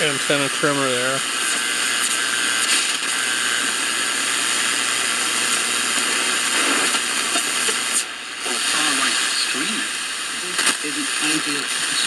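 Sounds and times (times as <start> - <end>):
faint radio station audio: 0.0 - 12.0
shortwave radio hiss: 0.0 - 12.0.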